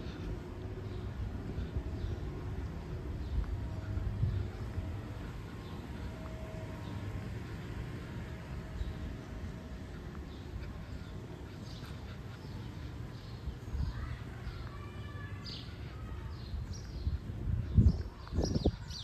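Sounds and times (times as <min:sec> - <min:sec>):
birds chirping: 0:00.0 - 0:19.0
outdoor rumble: 0:00.0 - 0:19.0.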